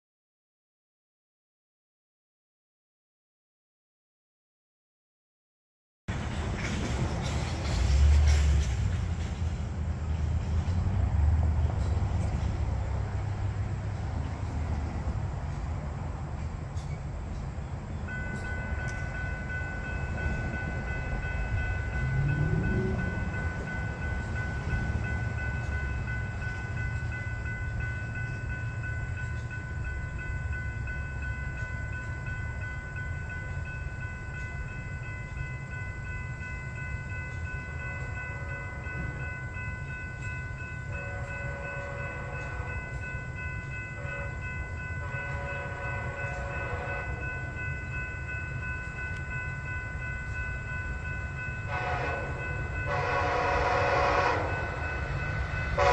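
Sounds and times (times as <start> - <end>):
distant train rumble: 6.1 - 55.9.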